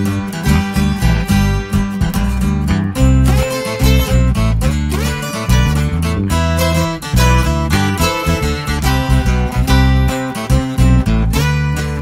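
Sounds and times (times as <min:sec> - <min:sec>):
low bass line: 0:00.0 - 0:12.0
strummed acoustic guitar: 0:00.0 - 0:12.0.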